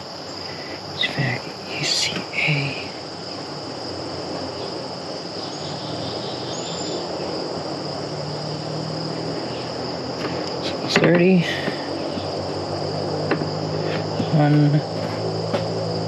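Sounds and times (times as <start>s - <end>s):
even hiss: 0.0s - 16.0s
high-pitched drone: 0.0s - 16.0s.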